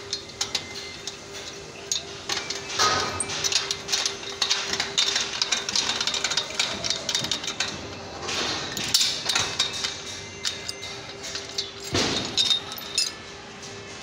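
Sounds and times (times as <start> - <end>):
metal couplers clinking and knocking: 0.0 - 13.3.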